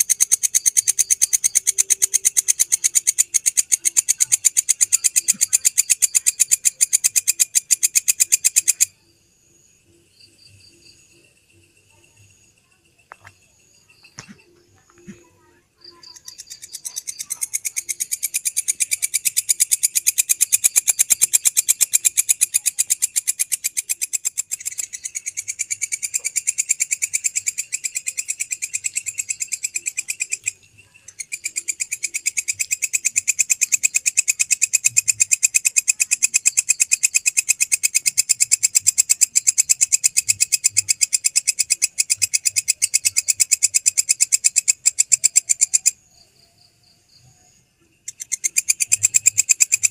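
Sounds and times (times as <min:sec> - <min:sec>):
grasshopper singing: 0:00.0 - 0:49.9.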